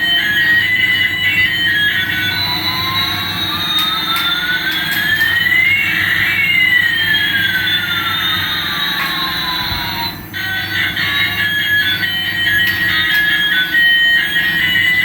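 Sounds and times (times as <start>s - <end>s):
electronic jet engine hum: 0.0s - 15.0s
whistling tones gliding: 0.0s - 15.0s.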